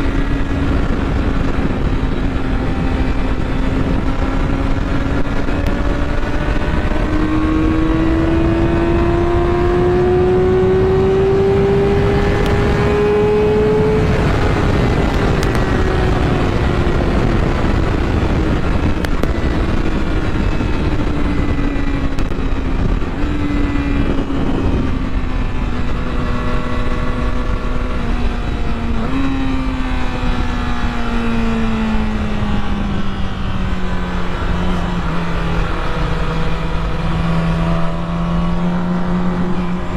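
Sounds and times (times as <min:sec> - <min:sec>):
constant rushing noise: 0:00.0 - 0:39.9.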